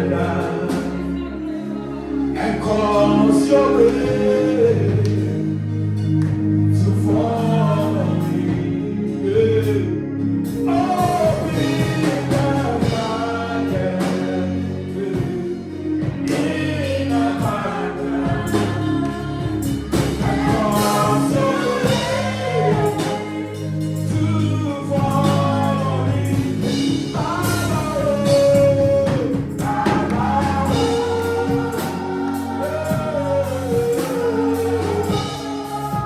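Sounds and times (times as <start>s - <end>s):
choir singing gospel: 0.0s - 36.0s
sustained keyboard chords: 0.0s - 36.0s.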